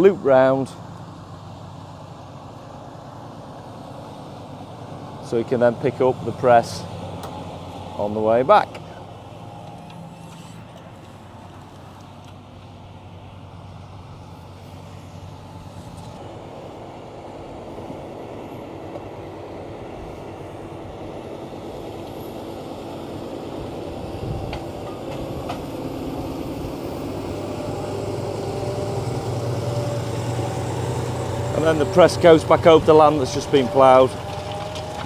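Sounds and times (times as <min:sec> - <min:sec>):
tractor running: 0:00.0 - 0:35.0.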